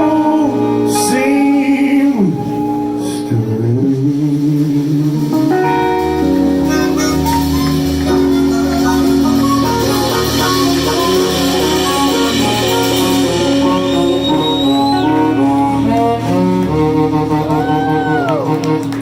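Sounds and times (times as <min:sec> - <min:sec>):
live blues band playing: 0:00.0 - 0:19.0.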